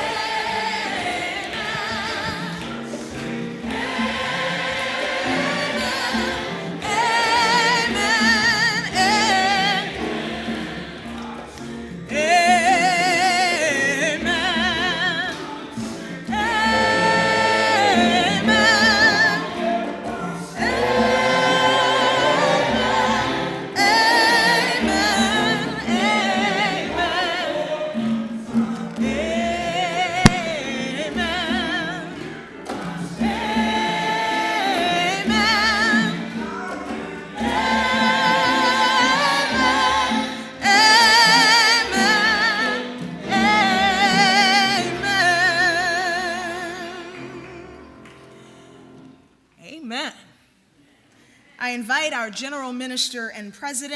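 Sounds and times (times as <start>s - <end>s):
choir singing gospel: 0.0s - 49.2s.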